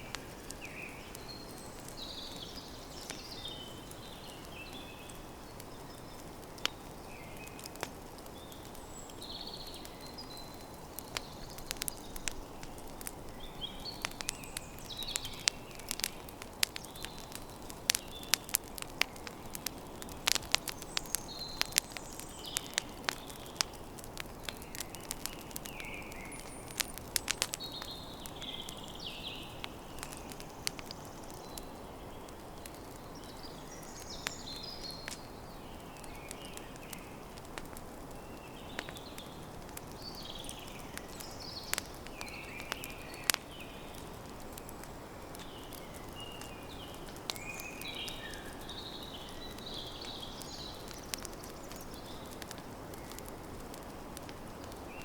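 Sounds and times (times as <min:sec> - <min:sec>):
birds chirping: 0:00.0 - 0:37.4, 0:38.1 - 0:53.3
campfire crackling and popping: 0:00.0 - 0:55.0
steady low hiss: 0:00.0 - 0:55.0.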